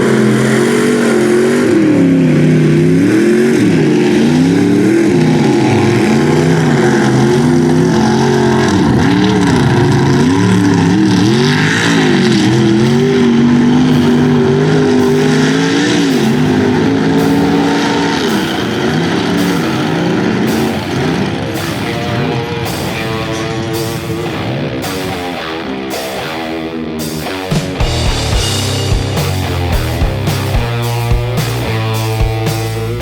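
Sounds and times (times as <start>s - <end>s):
truck engine revving hard: 0.0s - 26.1s, 27.0s - 33.0s
rock music: 0.0s - 33.0s.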